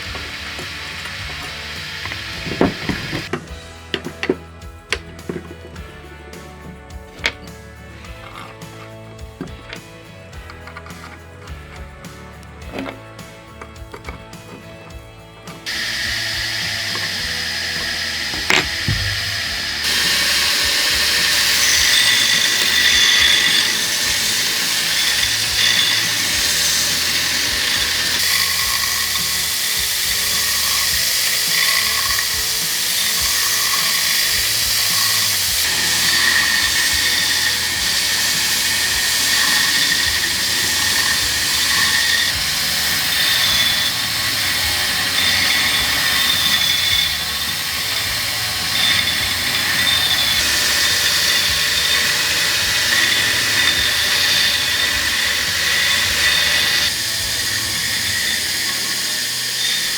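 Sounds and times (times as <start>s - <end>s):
power tool whining on steel: 0.0s - 4.3s, 15.6s - 59.9s.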